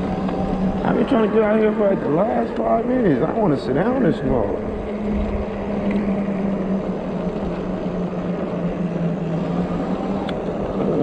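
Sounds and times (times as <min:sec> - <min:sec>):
steady low hum: 0:00.0 - 0:11.0
wind rushing over microphone: 0:00.0 - 0:11.0.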